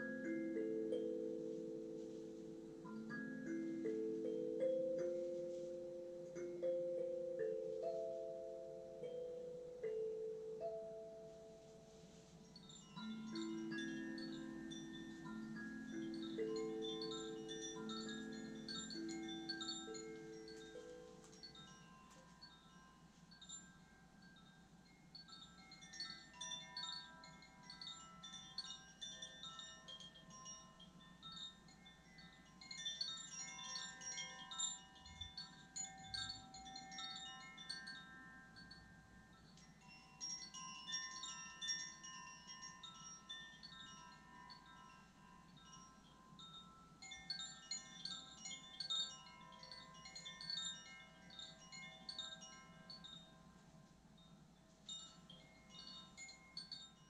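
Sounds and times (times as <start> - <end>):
chimes tinkling: 0.0 - 57.0.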